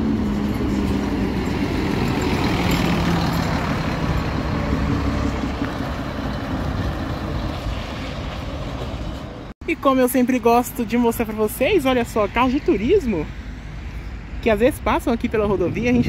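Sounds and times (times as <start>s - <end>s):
bus diesel engine running: 0.0s - 15.6s.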